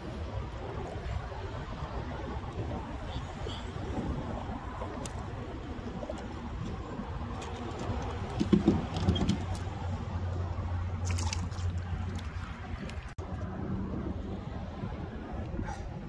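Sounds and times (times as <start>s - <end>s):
choppy water around kayak: 0.0s - 16.0s
wind: 0.0s - 16.0s.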